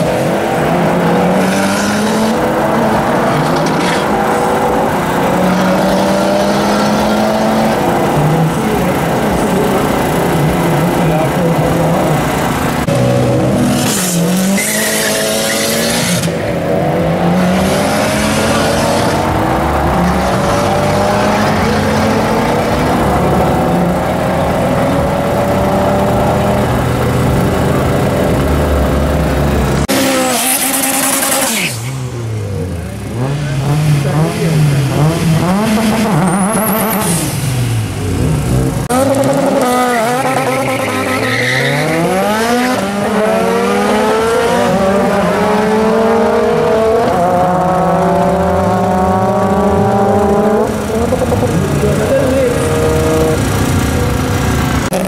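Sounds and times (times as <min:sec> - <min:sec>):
car engine revving: 0:00.0 - 0:55.0
car engines accelerating: 0:00.0 - 0:55.0.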